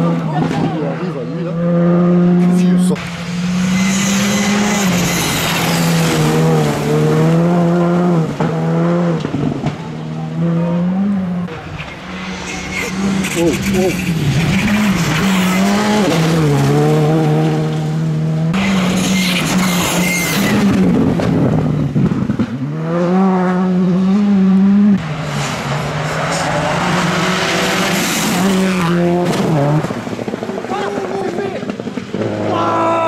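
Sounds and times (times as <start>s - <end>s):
rally car engines at full throttle: 0.0s - 33.0s.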